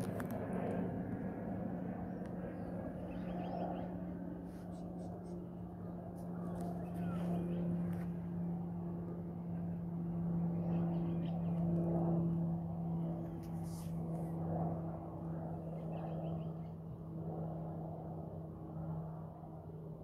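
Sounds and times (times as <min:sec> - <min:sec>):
distant aircraft engine drone: 0:00.0 - 0:20.0.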